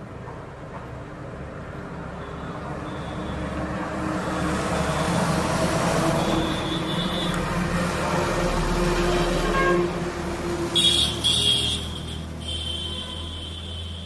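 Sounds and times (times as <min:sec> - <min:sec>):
large vehicle running: 0:00.0 - 0:14.0.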